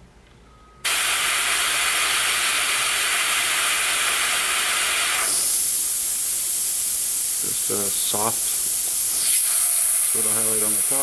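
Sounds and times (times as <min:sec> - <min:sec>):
airbrush hissing: 0:00.9 - 0:11.0.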